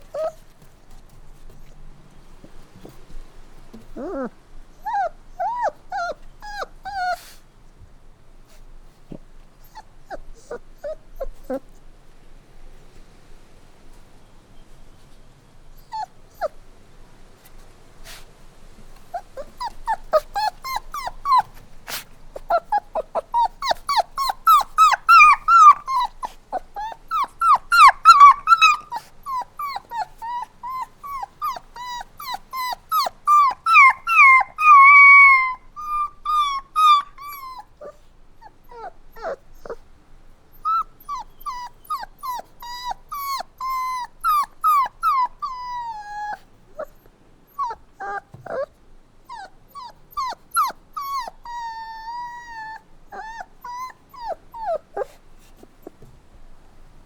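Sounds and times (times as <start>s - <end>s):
puppies whimpering and whining: 0.0s - 1.8s, 3.7s - 7.4s, 8.5s - 11.8s, 15.7s - 16.6s, 19.1s - 39.9s, 40.5s - 56.1s.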